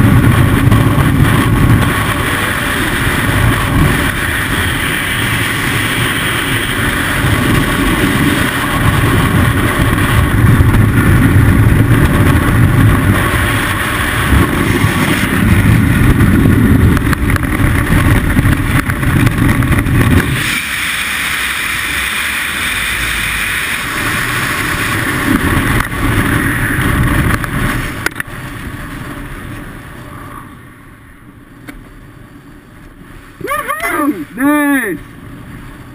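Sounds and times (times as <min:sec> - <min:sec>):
wind buffeting microphone: 0:00.0 - 0:30.5.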